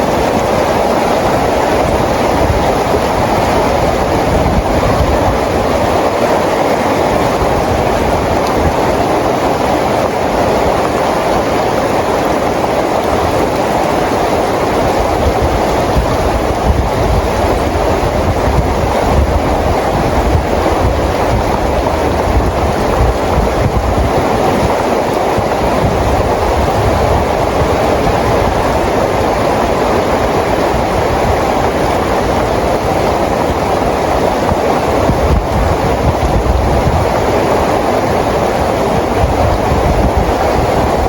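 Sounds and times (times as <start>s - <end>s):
steady rain hissing: 0.0s - 41.0s.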